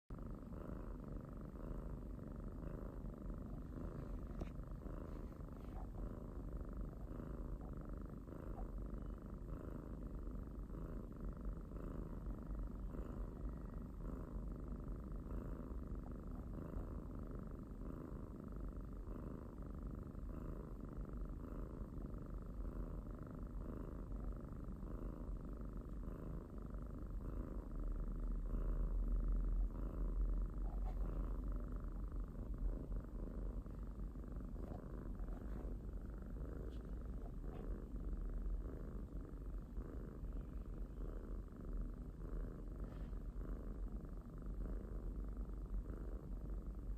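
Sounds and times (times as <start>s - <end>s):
kitten purring: 0.0s - 46.9s.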